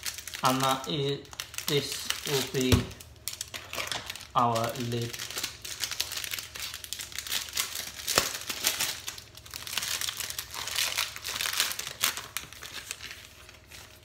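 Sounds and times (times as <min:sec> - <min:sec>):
wrapping crinkling: 0:00.0 - 0:14.0.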